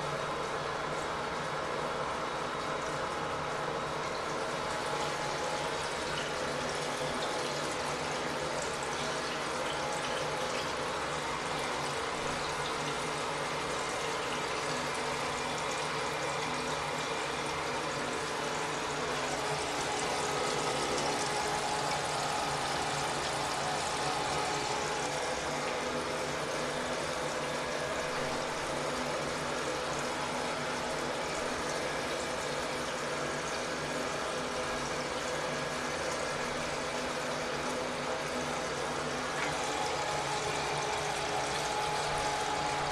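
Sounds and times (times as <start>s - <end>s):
toilet tank refilling: 0.0s - 42.9s.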